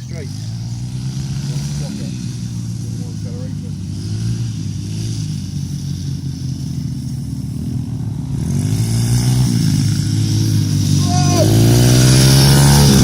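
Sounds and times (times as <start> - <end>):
motorbike engines revving: 0.0 - 13.0.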